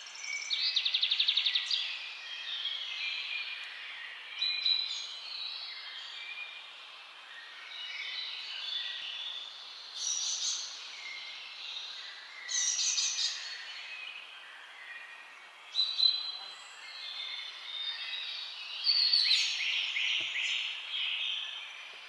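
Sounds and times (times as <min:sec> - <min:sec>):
faint steady hiss: 0:00.0 - 0:22.0
wild birds singing: 0:00.0 - 0:22.0.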